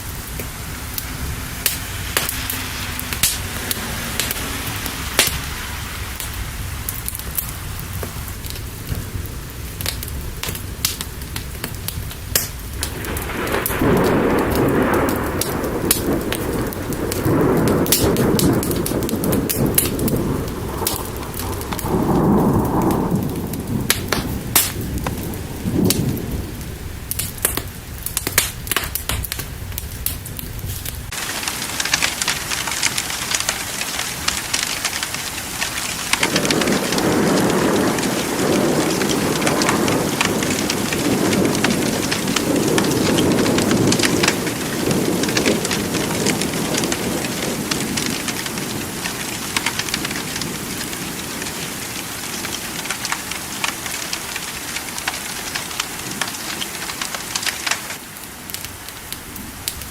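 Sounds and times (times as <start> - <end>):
rolling thunder: 0.0 - 54.0
fire crackling and popping: 0.0 - 59.9
steady rain: 0.0 - 59.9.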